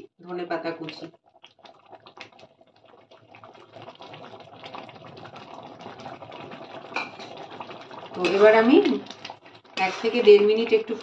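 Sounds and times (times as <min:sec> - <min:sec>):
curry simmering with bubbling pops: 0:00.0 - 0:11.0.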